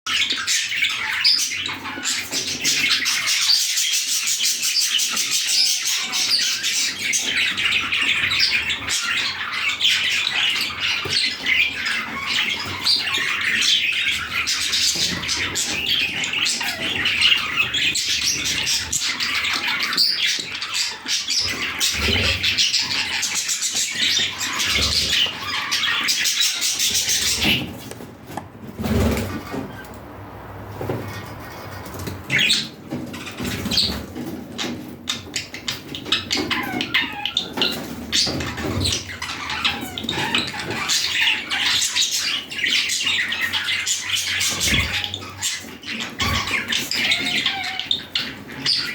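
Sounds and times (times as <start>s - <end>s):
budgerigars chattering and chirping: 0.1s - 30.0s, 31.1s - 48.9s.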